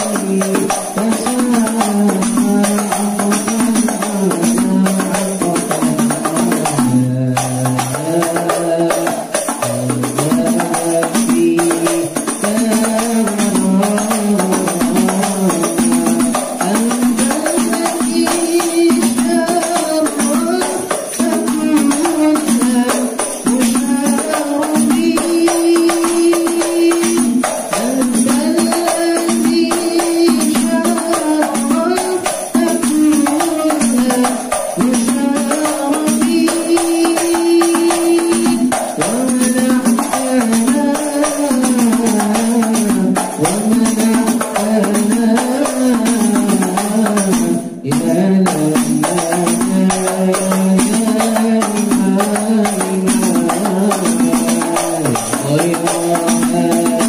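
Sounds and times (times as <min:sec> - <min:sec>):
hand-beaten frame drums: 0:00.0 - 0:57.0
young man singing: 0:00.0 - 0:57.0.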